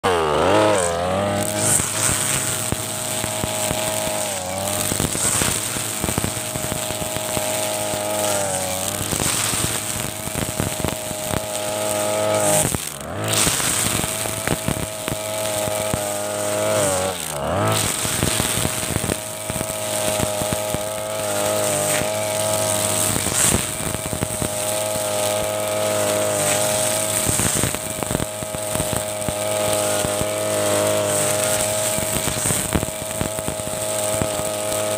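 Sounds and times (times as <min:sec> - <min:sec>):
brush cutter cutting grass: 0:00.0 - 0:34.9
ticks of clippings and debris: 0:00.0 - 0:34.9.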